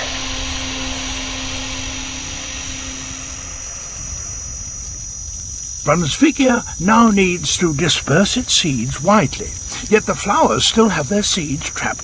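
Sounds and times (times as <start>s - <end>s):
low steady hum: 0.0s - 11.8s
broad hiss: 0.0s - 12.0s
crickets trilling: 0.0s - 12.0s.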